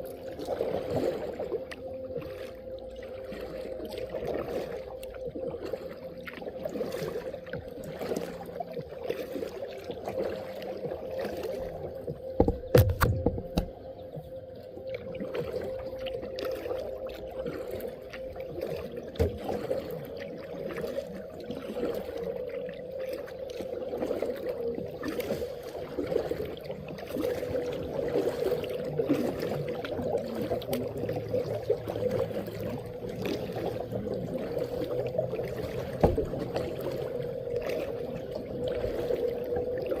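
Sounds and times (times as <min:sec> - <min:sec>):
paddle splashing and dripping: 0:00.0 - 0:40.0.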